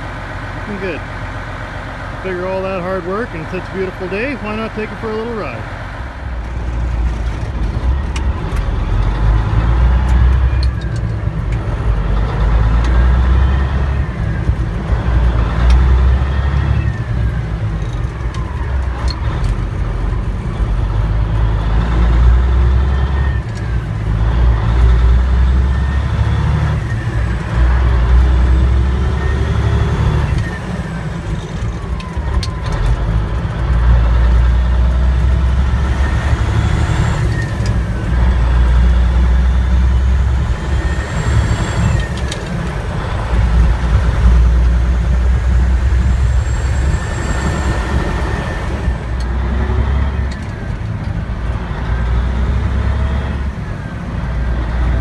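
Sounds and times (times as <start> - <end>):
truck diesel engine from cab: 0.0 - 55.0.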